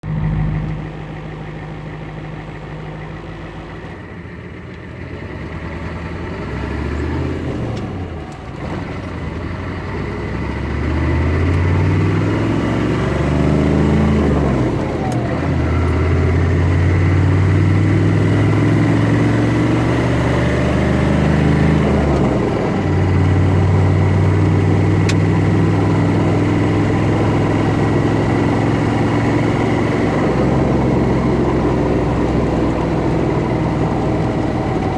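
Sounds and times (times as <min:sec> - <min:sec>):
car engine revving: 0:00.0 - 0:03.9, 0:05.5 - 0:34.9.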